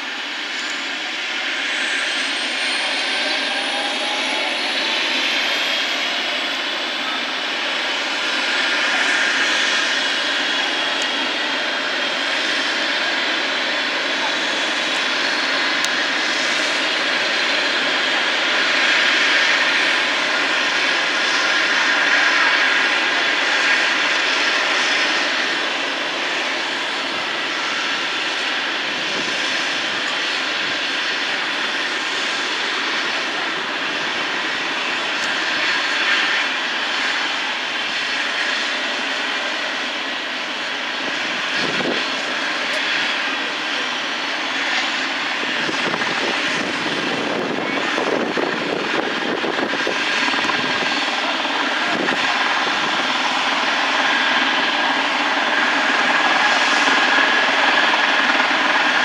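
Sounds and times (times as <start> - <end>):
helicopter rotor noise: 0.0 - 59.0
helicopter turbine whine: 0.0 - 59.0.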